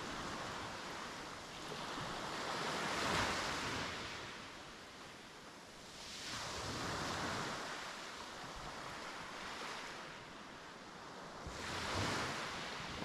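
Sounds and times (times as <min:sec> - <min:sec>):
sea waves washing onto beach: 0:00.0 - 0:13.0.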